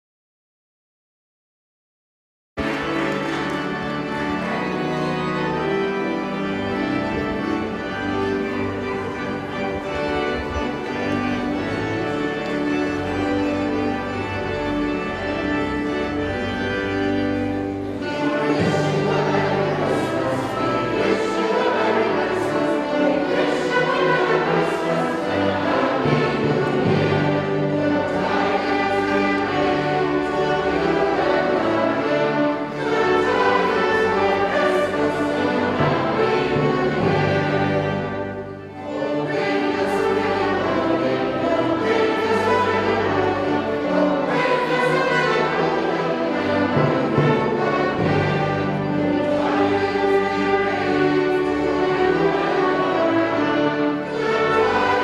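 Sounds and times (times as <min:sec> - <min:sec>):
choir singing: 0:02.6 - 0:55.0
orchestra playing: 0:02.6 - 0:55.0
organ-like chords: 0:02.6 - 0:55.0.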